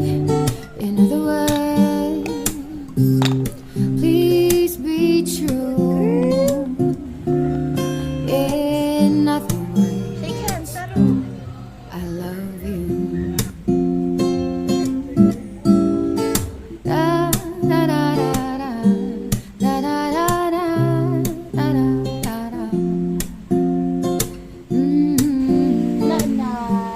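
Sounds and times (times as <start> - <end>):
person singing: 0.0 - 10.7, 11.9 - 15.3, 16.8 - 23.4, 24.7 - 26.9
acoustic guitar strumming: 0.0 - 26.9.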